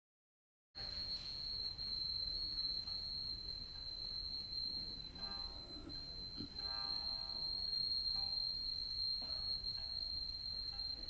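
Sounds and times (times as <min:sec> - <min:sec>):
faint music: 0:00.8 - 0:11.0
high-pitched whine: 0:00.8 - 0:11.0.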